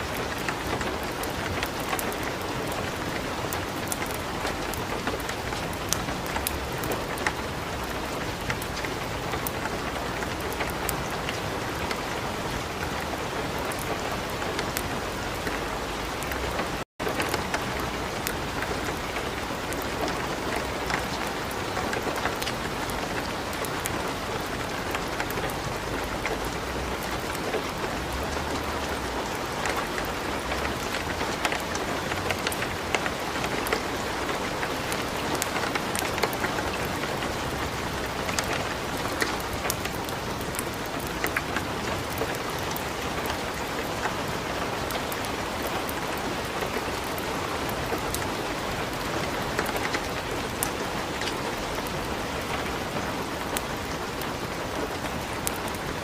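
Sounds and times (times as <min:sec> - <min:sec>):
light rain: 0:00.0 - 0:56.0
wood fire crackling: 0:00.0 - 0:56.0.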